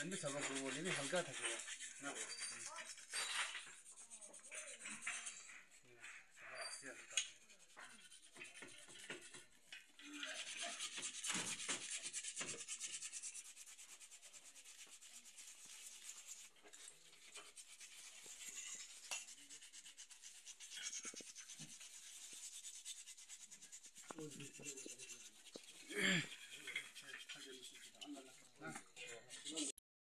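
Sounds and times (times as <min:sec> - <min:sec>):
dry rubbing on hard surface: 0:00.0 - 0:29.8.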